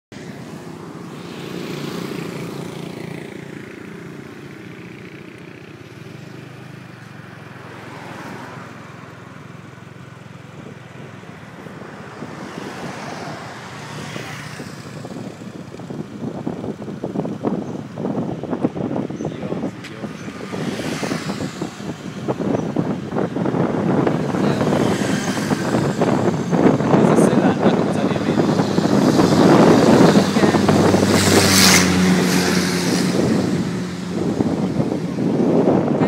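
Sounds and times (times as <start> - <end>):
cars passing: 0.1 - 36.0
road noise: 0.1 - 36.0
wind buffeting microphone: 0.2 - 36.0
motor scooter engine running: 1.1 - 7.6, 13.6 - 36.0.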